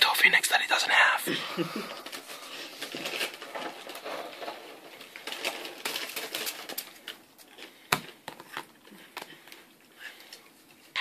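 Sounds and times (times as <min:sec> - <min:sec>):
cards rustling and clicking: 0:01.9 - 0:10.9.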